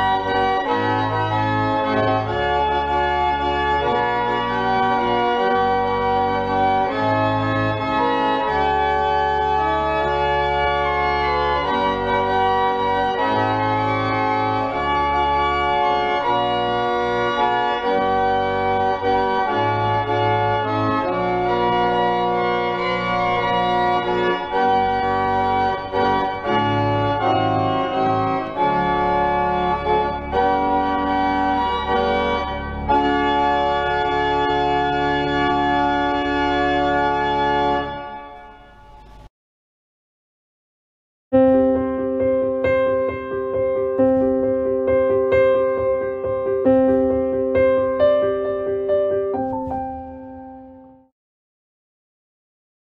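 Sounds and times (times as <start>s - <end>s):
pipe organ chords: 0.0s - 39.3s, 41.4s - 50.9s.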